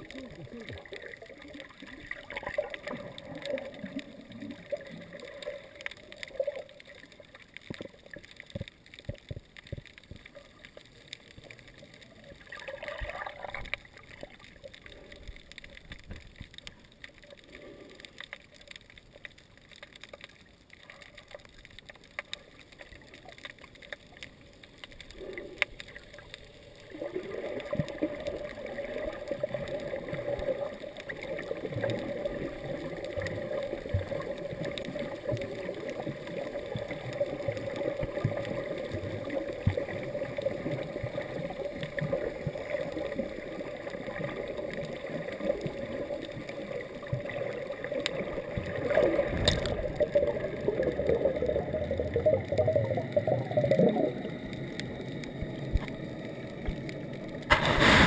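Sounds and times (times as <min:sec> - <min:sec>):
water gurgling underwater: 0:00.0 - 0:17.7, 0:18.5 - 0:58.0.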